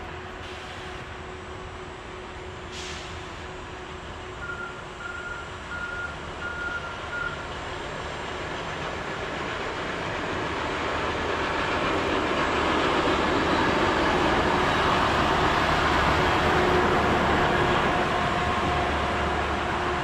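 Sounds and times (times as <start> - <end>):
rail vehicle engine running: 0.0 - 20.0.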